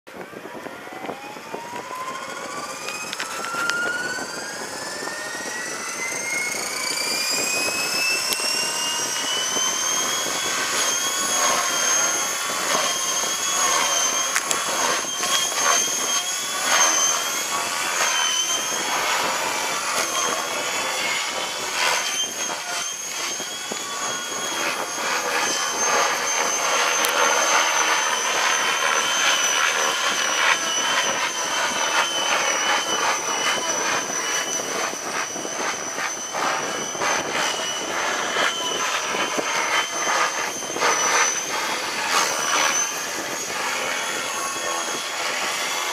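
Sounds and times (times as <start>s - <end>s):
wind buffeting microphone: 0.1s - 45.8s
motor whine rising: 0.1s - 45.9s.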